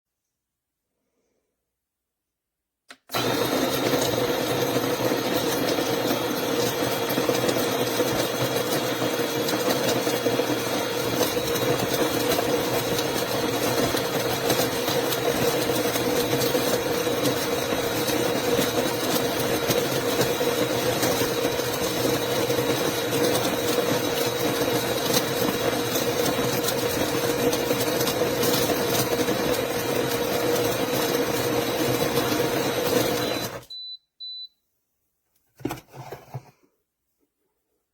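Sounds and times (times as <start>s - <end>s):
coffee grinder running: 3.1s - 33.6s.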